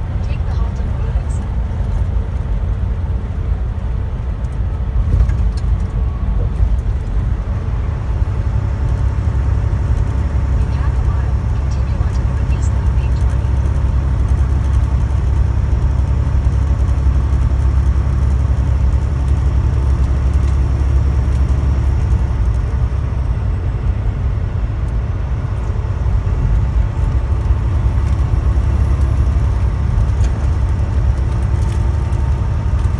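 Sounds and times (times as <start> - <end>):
truck engine drone: 0.0 - 32.9.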